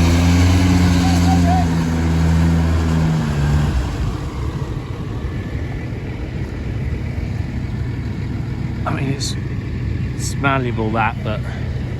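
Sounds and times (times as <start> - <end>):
engine humming: 0.0 - 11.9
rough rumbling: 0.0 - 11.9.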